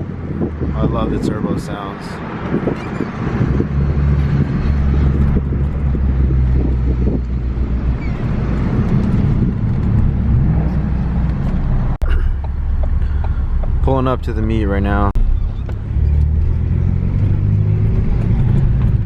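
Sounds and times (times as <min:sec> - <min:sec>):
car engine and road hum: 0:00.0 - 0:19.0.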